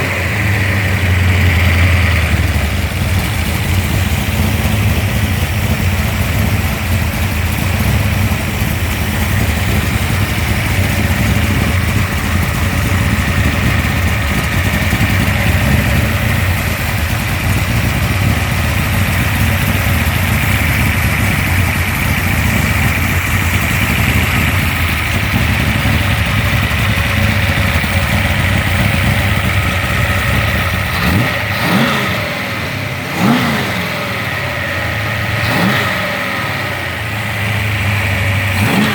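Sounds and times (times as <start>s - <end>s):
car engine running and revving: 0.0s - 38.9s.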